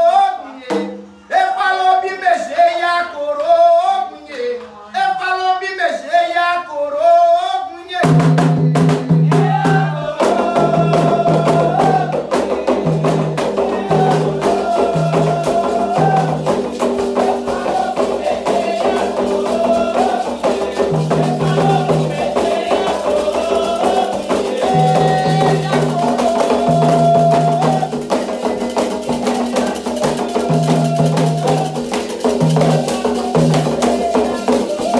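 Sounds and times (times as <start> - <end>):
atabaque drums: 0.0 - 1.5, 8.0 - 34.9
call-and-response chant: 0.0 - 34.9.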